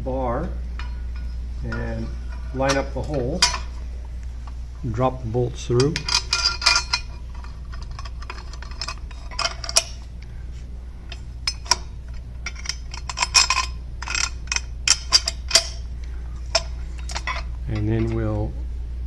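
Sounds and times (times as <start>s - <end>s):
steady low hum: 0.0s - 19.0s
metal bolts clinking: 0.8s - 5.0s, 5.6s - 10.3s, 11.0s - 18.4s.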